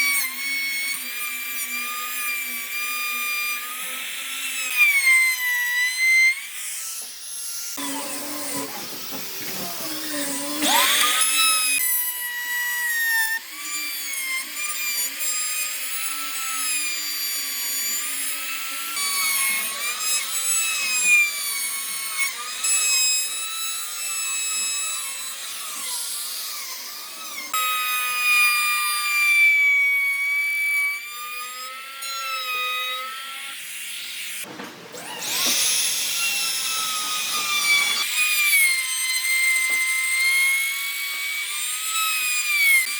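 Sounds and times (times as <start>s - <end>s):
power tool motor whining: 6.4s - 29.2s, 30.0s - 42.9s.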